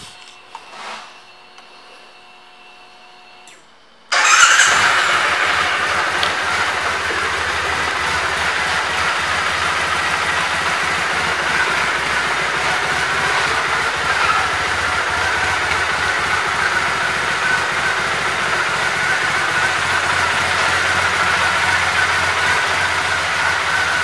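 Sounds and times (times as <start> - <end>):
motorcycle engine idling: 4.1 - 24.0.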